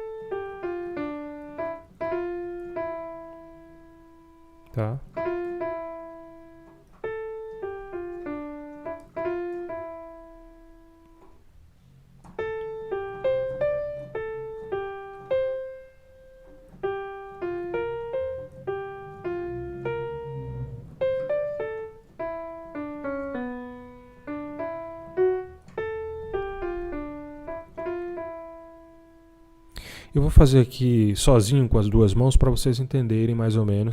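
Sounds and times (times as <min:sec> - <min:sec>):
piano melody: 0:00.0 - 0:32.1.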